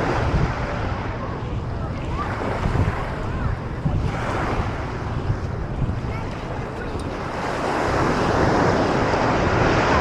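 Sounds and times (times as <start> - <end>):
ocean surf breaking: 0.0 - 10.0
wind rumbling on microphone: 0.0 - 10.0.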